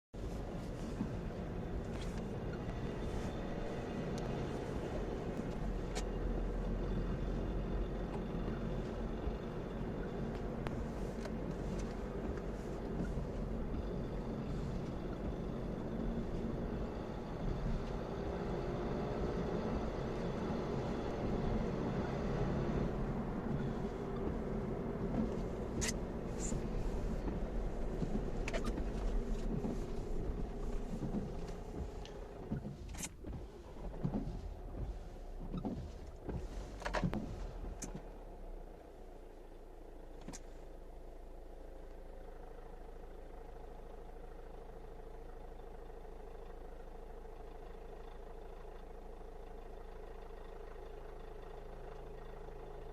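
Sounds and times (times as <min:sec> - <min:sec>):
diesel engine running with rattle: 0:00.2 - 0:52.9.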